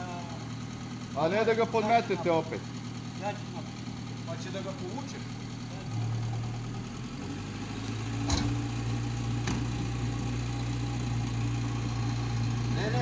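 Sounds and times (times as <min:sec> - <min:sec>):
small car engine idling: 0:00.0 - 0:13.0.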